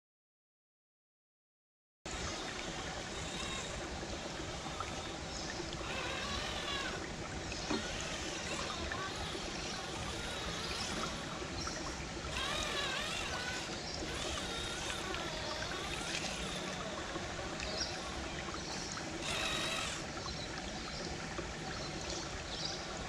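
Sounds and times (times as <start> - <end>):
creek water running over rocks: 2.1 - 23.0.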